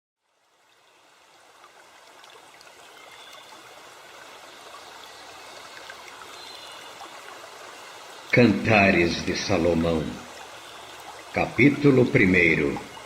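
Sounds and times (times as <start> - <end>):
flowing water rushing: 0.2 - 13.0.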